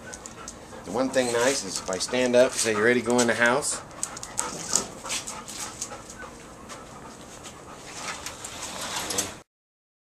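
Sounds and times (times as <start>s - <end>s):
dog panting fast: 0.0s - 8.4s.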